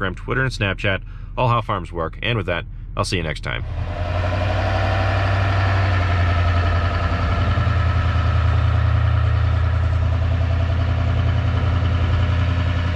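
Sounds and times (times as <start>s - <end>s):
vehicle engine idling: 2.2s - 12.9s.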